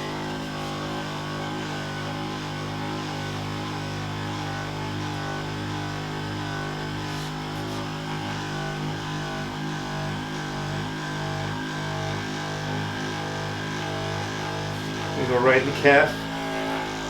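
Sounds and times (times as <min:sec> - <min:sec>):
massager motor humming: 0:00.0 - 0:17.0.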